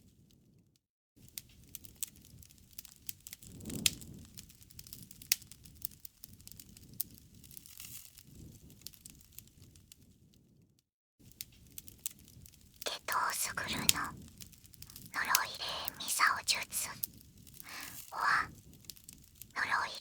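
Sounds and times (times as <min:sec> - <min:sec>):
bonfire crackling: 0:01.6 - 0:09.3, 0:11.4 - 0:20.0.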